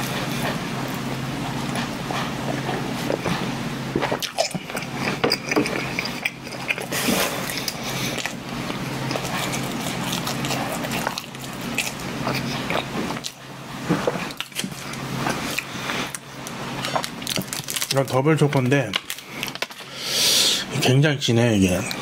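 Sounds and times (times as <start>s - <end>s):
person chewing: 0.0s - 18.0s
steady low hum: 0.0s - 22.0s.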